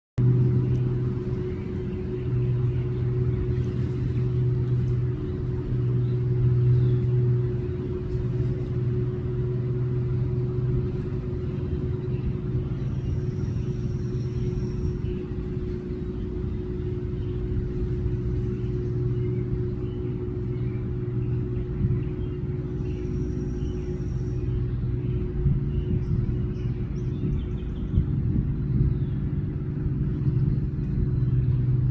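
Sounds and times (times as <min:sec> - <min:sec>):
low mechanical hum: 0:00.2 - 0:31.9.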